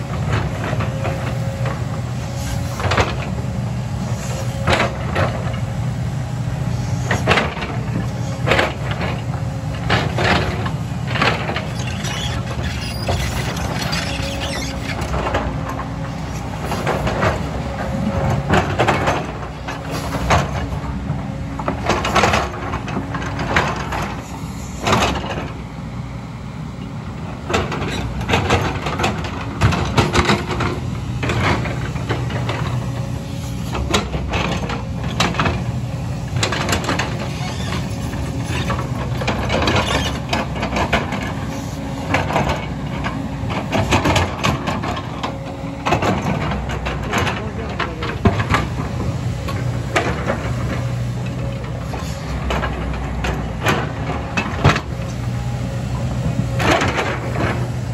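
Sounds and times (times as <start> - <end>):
excavator diesel engine: 0.0 - 57.9.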